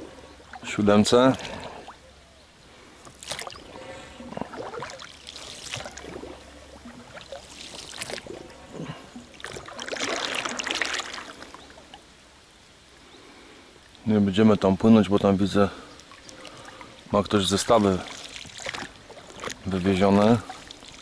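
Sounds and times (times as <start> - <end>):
oars splashing water: 0.0 - 12.2, 15.8 - 21.0.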